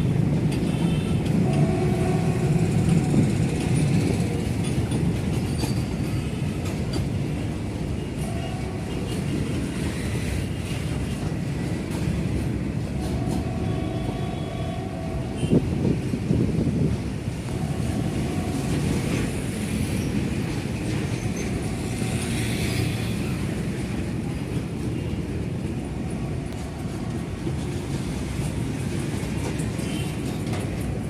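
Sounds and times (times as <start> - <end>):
train wagons rolling on rails: 0.0 - 31.0.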